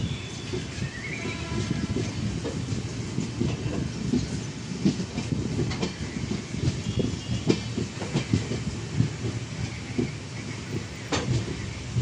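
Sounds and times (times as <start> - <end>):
train wheels rumbling: 0.0 - 12.0
wheels clacking over rail joints: 0.1 - 12.0.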